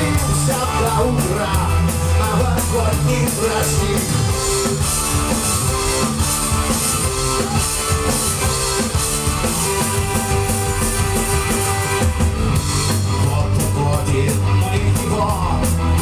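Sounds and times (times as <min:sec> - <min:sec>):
drum kit: 0:00.0 - 0:16.0
electric guitar: 0:00.0 - 0:16.0.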